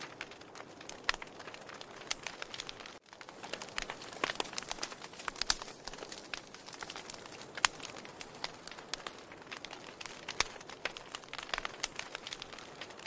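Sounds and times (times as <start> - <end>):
burning wood crackling: 0.0 - 13.0
sharp pops and snaps: 0.0 - 13.0.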